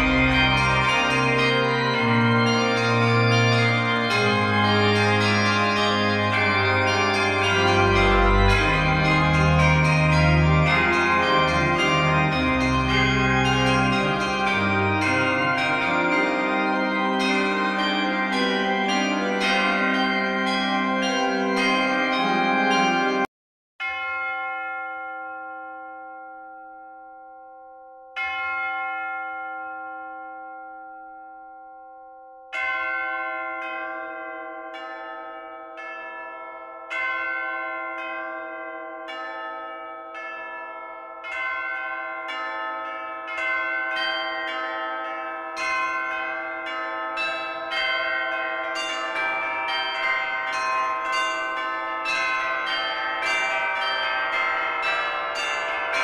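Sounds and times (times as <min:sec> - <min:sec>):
bells ringing: 0:00.0 - 0:56.0.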